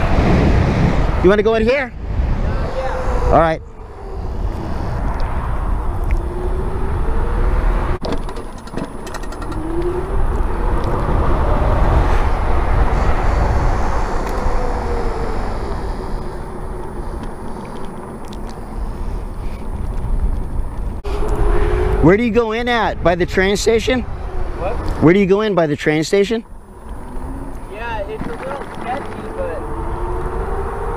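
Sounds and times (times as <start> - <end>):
wind rumble on microphone: 0.0 - 30.9.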